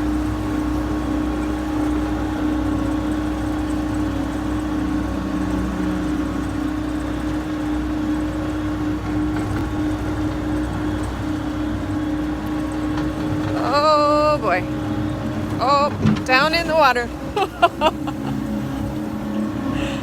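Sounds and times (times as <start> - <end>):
skid loader engine running: 0.0 - 20.0.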